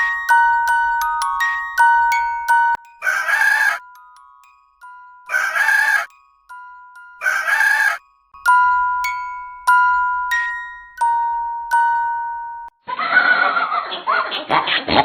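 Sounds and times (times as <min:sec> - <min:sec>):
soft glockenspiel notes: 0:00.0 - 0:12.8.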